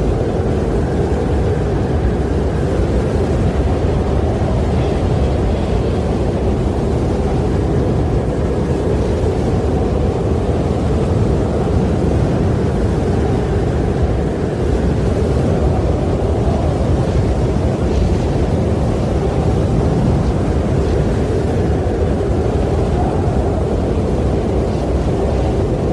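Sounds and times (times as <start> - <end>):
low rushing wind: 0.0 - 25.9.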